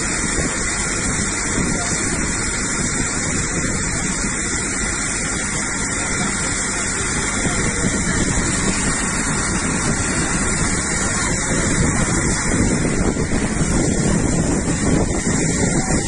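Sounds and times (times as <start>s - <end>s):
fire hose spraying water: 0.0s - 16.0s.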